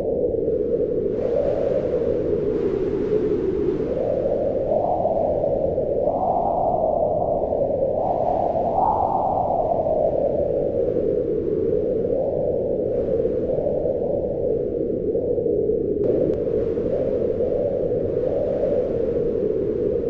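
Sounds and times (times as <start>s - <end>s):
wind howling: 0.0s - 20.0s.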